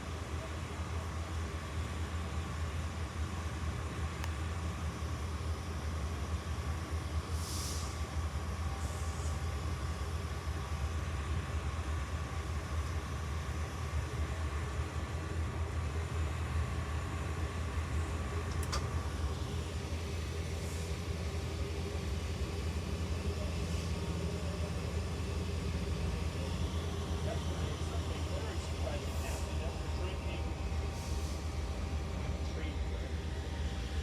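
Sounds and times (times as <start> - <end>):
faint steady whine: 0.0 - 34.0
train rumbling: 0.0 - 34.0.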